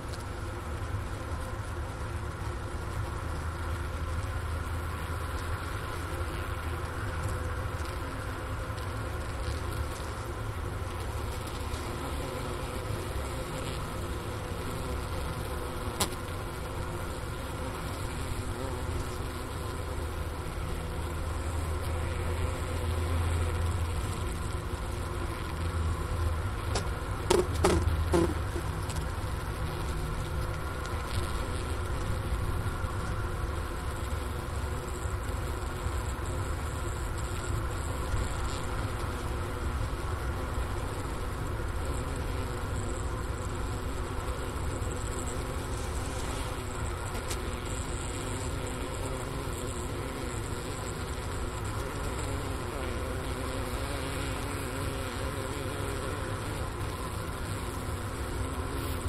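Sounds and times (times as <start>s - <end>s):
bees humming in hive: 0.0s - 59.0s.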